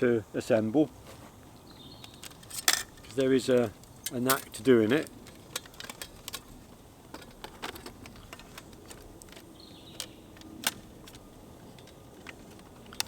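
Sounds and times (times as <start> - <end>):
lantern metal parts clicking: 2.0 - 13.0.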